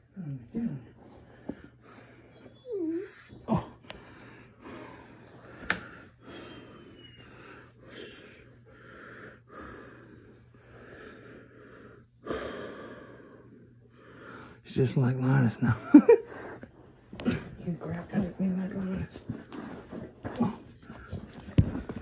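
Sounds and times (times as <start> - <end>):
breathing and snuffling: 0.6 - 14.6, 16.2 - 22.0.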